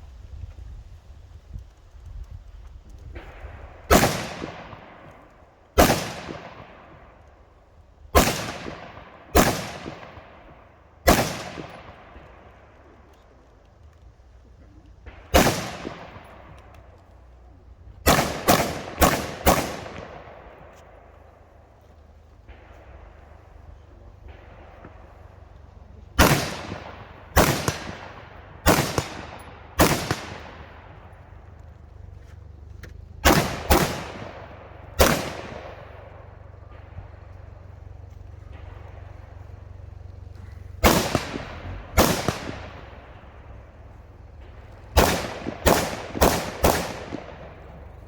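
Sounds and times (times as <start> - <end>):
rifle shots with echo: 3.0 - 48.0.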